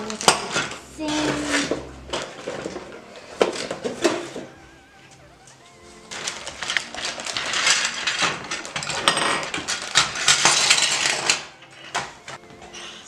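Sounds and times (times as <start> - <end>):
plastic pieces clattering on wood: 0.0 - 4.6, 6.1 - 12.9
plastic bag crinkling: 0.0 - 12.0.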